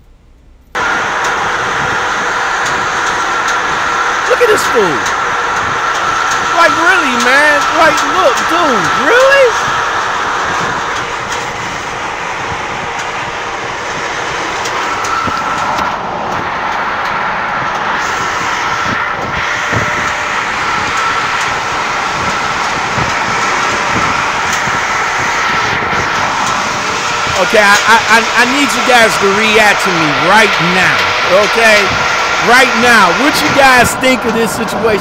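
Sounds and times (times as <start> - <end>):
faint steady whine: 0.0 - 35.0
trailer rattle: 0.0 - 35.0
wind: 0.0 - 35.0.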